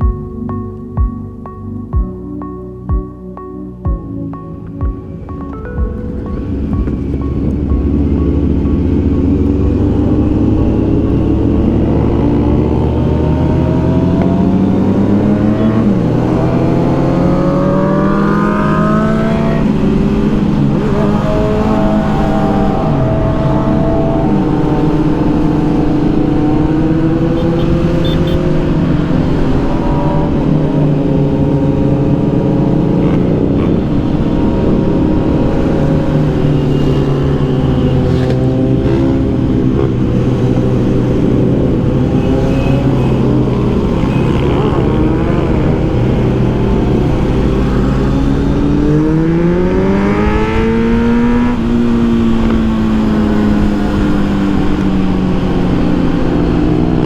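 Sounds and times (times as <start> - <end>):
motorcycle engine revving: 6.4 - 57.0.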